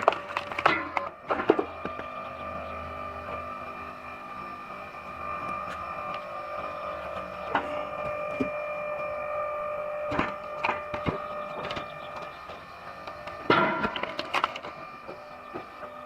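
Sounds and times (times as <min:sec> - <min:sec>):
machine whine: 0:00.0 - 0:16.0.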